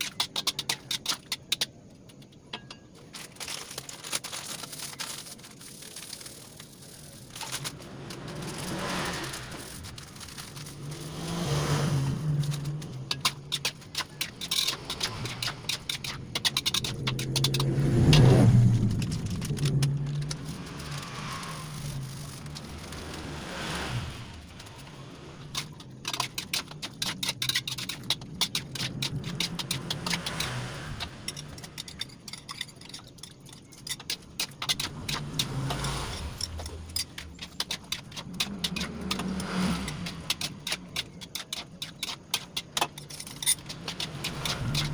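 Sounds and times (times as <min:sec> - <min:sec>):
metal spatula scraping a wok: 0:06.3 - 0:44.9.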